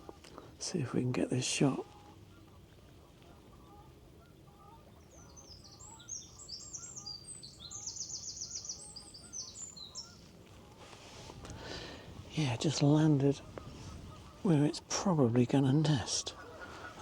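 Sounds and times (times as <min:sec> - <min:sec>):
faint background noise: 0:00.0 - 0:17.0
songbird singing: 0:00.0 - 0:17.0.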